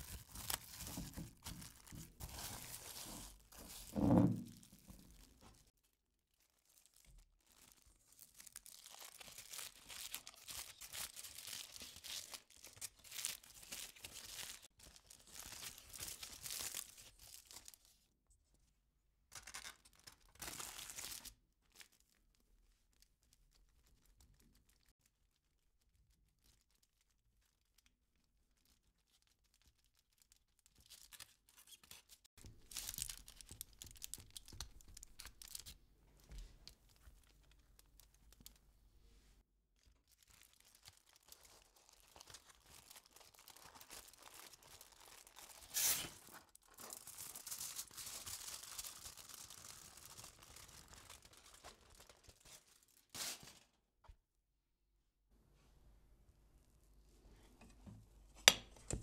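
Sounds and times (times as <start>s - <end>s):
aluminium foil crinkling: 0.0s - 17.9s, 19.3s - 35.8s, 39.8s - 53.8s.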